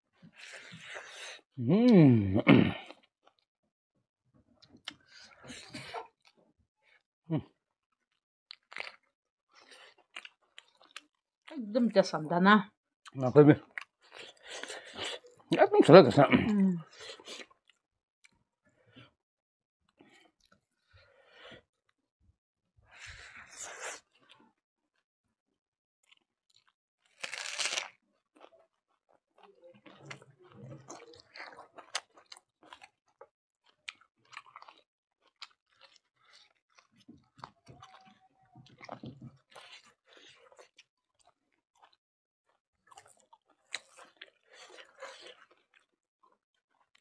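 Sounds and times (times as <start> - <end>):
chewing and crunching food: 2.8 - 3.5, 4.4 - 11.9, 13.0 - 15.6, 16.8 - 19.2, 19.8 - 21.9, 22.9 - 25.0, 26.0 - 47.0.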